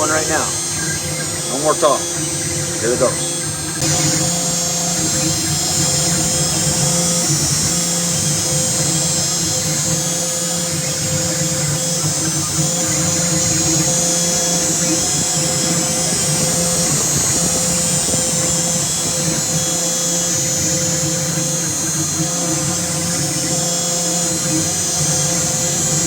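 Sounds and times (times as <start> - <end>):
machine humming tones: 0.0 - 26.0
spindle whine and hiss: 0.0 - 26.0.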